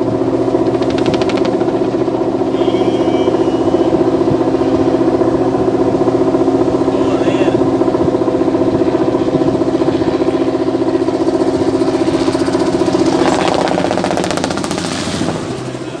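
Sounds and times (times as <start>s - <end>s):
rapid fluttering: 0.0s - 6.7s, 7.8s - 15.7s
engine pulsing: 0.0s - 16.0s.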